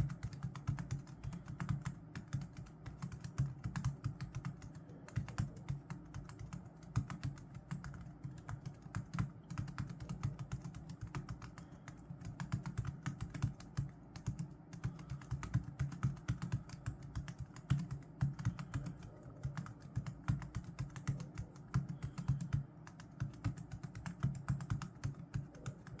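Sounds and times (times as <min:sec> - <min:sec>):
fast keyboard typing: 0:00.0 - 0:26.0.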